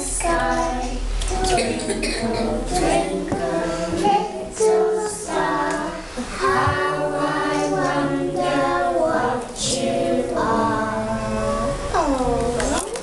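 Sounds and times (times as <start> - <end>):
children singing together: 0.0 - 12.7.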